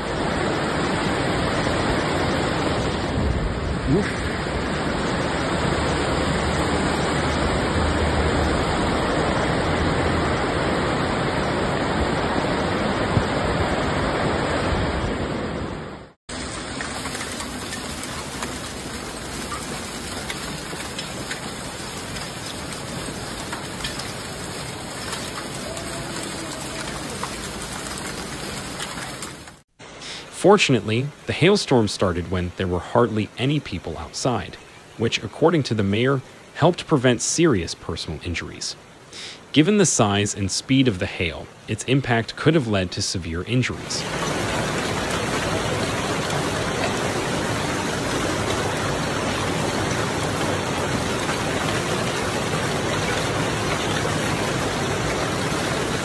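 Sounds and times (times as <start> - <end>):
steady rain downpour: 0.0 - 56.0
torrent of water rushing: 0.0 - 56.0.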